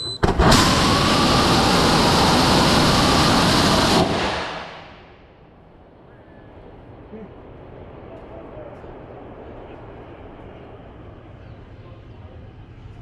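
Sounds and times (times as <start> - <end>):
rocket motor roaring hiss: 0.2 - 11.8.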